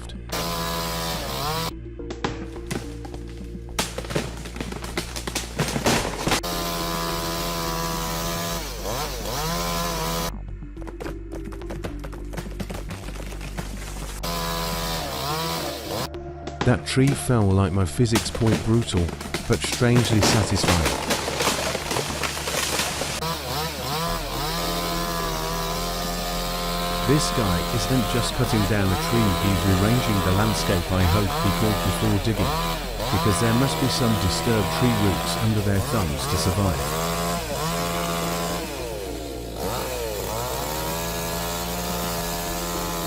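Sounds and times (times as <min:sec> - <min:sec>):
chainsaw revving: 0:00.0 - 0:01.8, 0:02.7 - 0:10.3, 0:14.0 - 0:16.1, 0:18.0 - 0:43.0.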